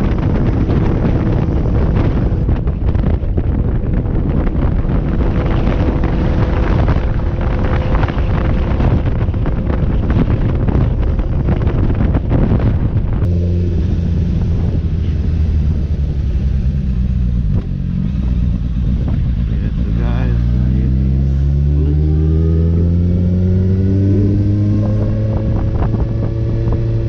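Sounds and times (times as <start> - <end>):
low engine hum: 0.0 - 27.0
motorcycle engine at speed: 0.0 - 27.0
wind rush on microphone: 0.0 - 27.0.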